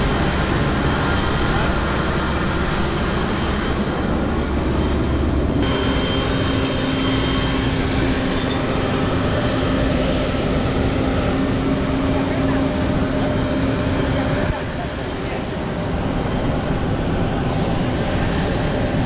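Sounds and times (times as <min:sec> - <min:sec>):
constant high whine: 0:00.0 - 0:19.0.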